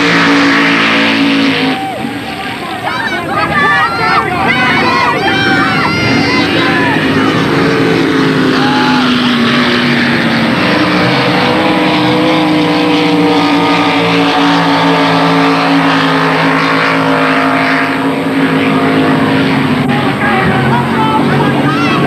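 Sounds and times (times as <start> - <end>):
powerboat engines droning: 0.0 - 22.0.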